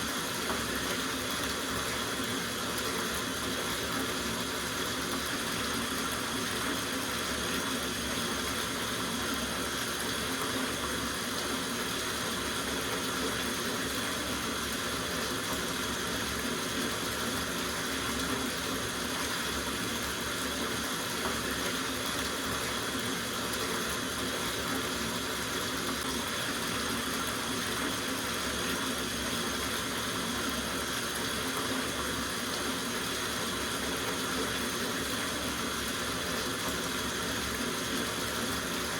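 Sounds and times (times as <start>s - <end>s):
tap water filling bathtub: 0.0s - 38.9s.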